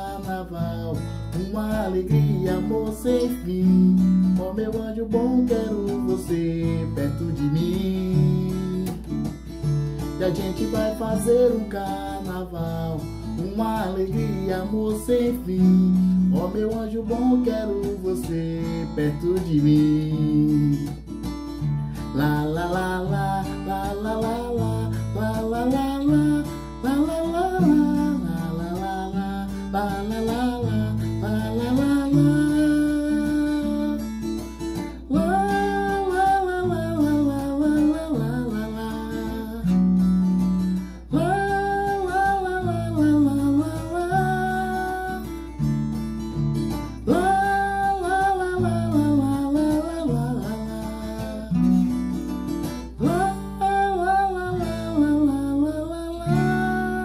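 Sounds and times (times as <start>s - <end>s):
man singing: 0.0s - 57.0s
strummed acoustic guitar: 0.0s - 57.0s.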